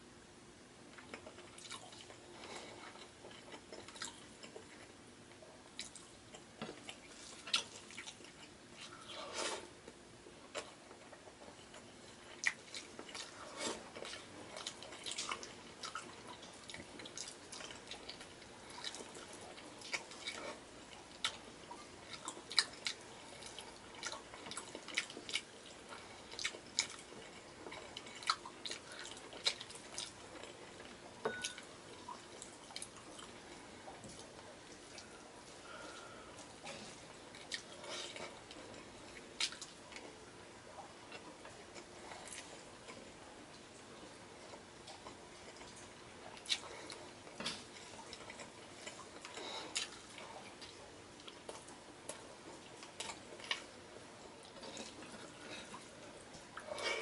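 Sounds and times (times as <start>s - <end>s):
chewing and wet mouth smacking: 0.9s - 5.0s, 5.8s - 9.2s, 10.5s - 40.2s, 44.4s - 57.0s.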